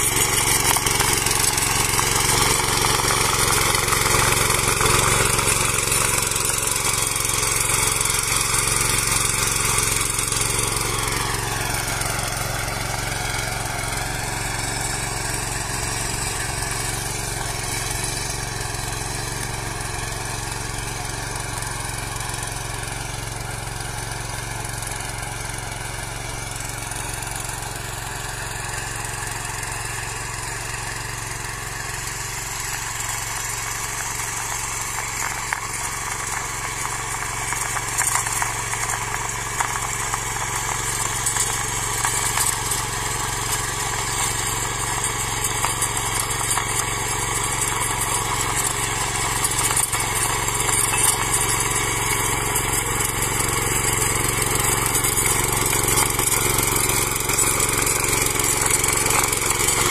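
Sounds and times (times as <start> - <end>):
small tiller engine running: 0.0 - 59.9.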